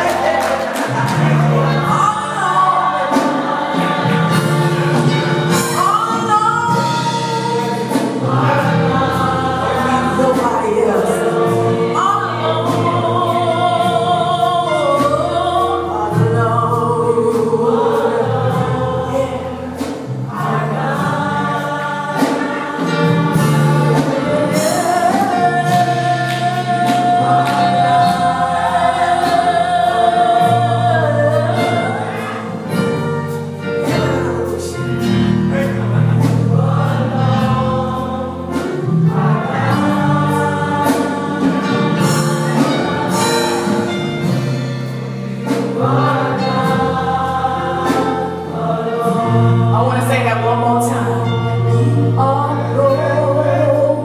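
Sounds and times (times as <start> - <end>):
gospel choir singing: 0.0 - 54.0
instrumental accompaniment: 0.0 - 54.0.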